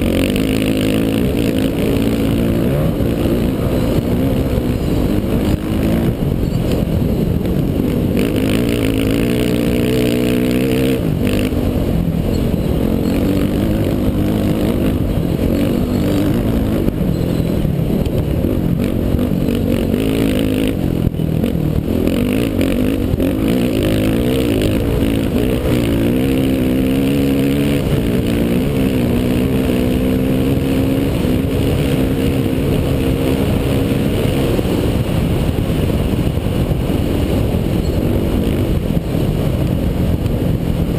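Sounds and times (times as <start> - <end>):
dirt bike engine running hard: 0.0 - 40.9
wind noise: 0.0 - 40.9.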